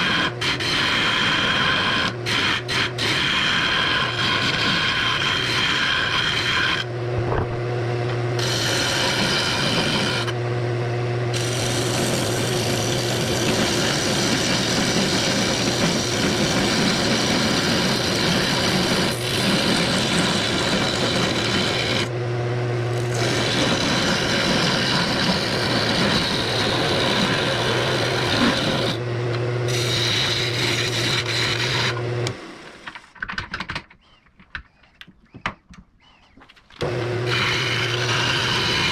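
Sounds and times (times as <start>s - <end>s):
turning tool shaving wood: 0.0s - 6.9s, 8.4s - 10.4s, 11.3s - 22.2s, 22.9s - 29.1s, 29.7s - 32.9s, 36.0s - 38.9s
lathe motor hum: 0.0s - 32.8s, 36.8s - 38.9s.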